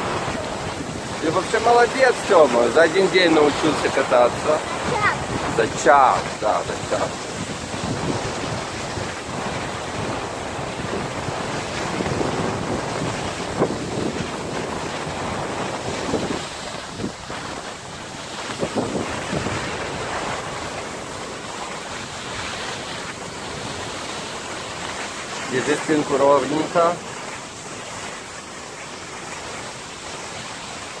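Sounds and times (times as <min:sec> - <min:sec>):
skis hissing over snow: 0:00.0 - 0:31.0
wind rushing on microphone: 0:00.0 - 0:31.0.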